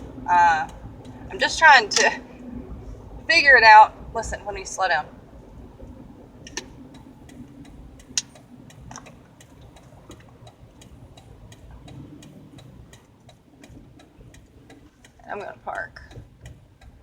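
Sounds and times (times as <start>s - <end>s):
rear wheel ticking: 0.0s - 17.0s
road and engine hum: 0.0s - 17.0s.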